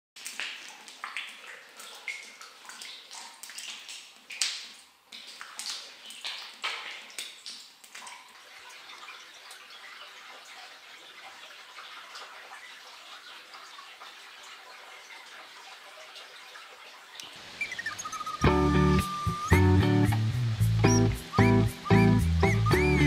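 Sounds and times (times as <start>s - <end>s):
water splashing and dripping: 0.2s - 23.0s
water trickling: 0.2s - 23.0s.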